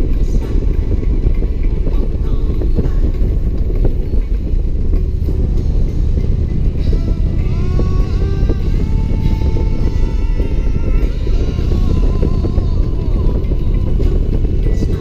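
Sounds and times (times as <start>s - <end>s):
motorcycle engine cruising: 0.0s - 15.0s
music: 0.0s - 15.0s
wind noise: 0.0s - 15.0s.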